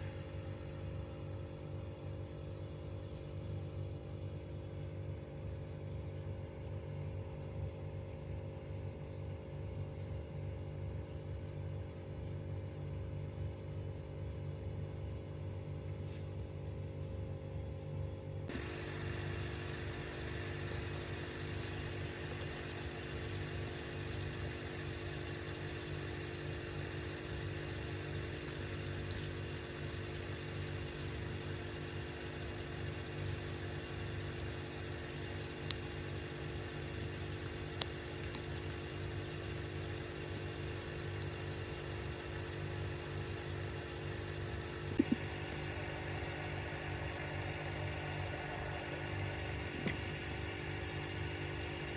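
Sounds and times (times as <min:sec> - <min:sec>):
aquarium pump humming: 0:00.0 - 0:51.9.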